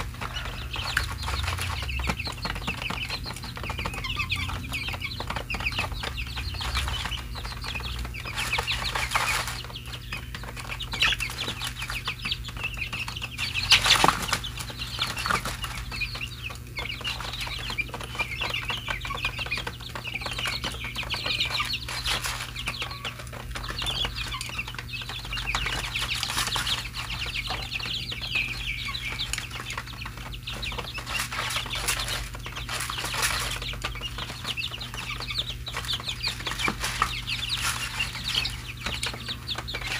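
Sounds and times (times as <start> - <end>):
young chickens cheeping: 0.0 - 39.9.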